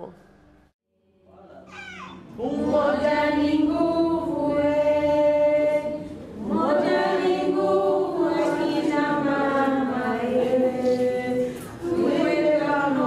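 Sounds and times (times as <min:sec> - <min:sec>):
women singing unaccompanied: 0:02.4 - 0:13.0.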